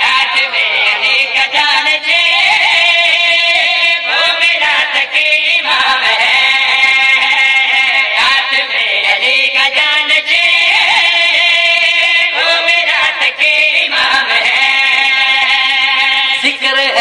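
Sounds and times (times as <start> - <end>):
person singing devotional song: 0.0 - 17.0.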